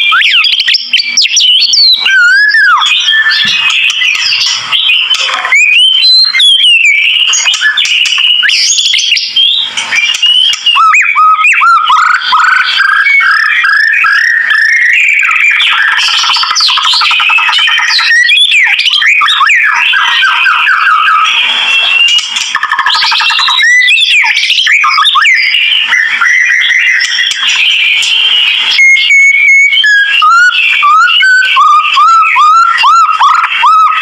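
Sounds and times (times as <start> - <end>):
bird singing varied song: 0.0 - 34.0.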